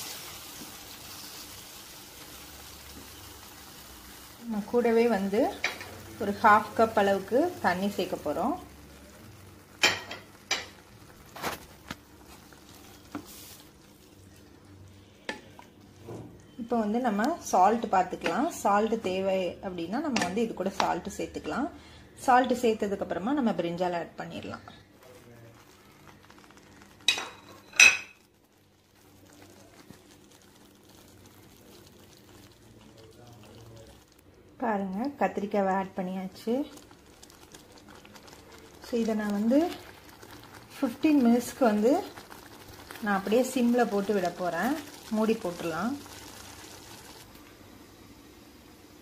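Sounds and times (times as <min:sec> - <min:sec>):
wooden spoon stirring in a pot: 0:00.0 - 0:21.2, 0:23.8 - 0:47.6
gravy cooking with faint crackles: 0:00.0 - 0:49.0.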